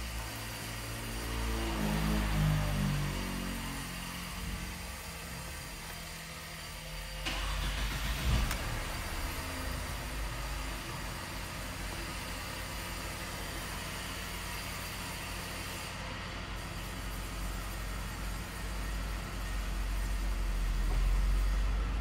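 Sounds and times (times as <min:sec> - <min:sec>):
car engine idling: 0:03.0 - 0:22.0.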